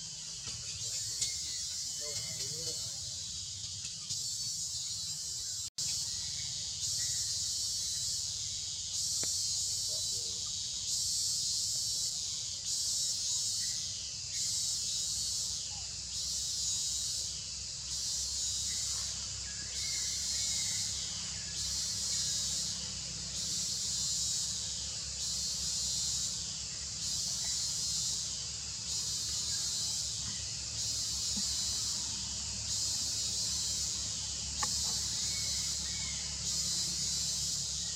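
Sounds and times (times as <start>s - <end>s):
cicadas chorus: 0.0s - 37.9s.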